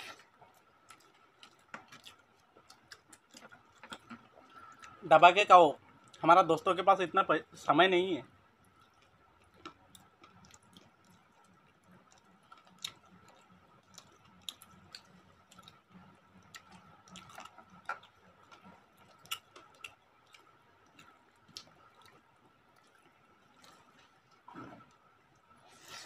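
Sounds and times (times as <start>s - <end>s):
chewing and mouth clicks: 0.4s - 5.0s, 8.7s - 25.5s.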